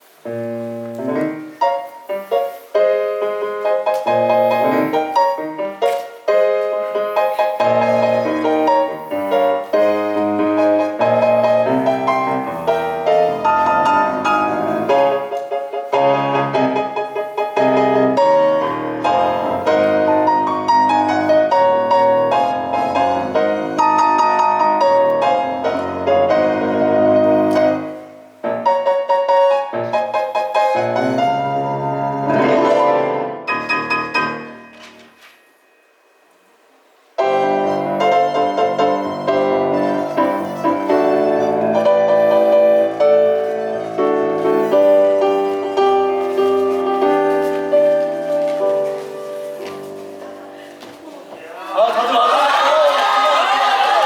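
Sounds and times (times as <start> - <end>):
piano music: 0.0 - 36.4, 37.2 - 51.4.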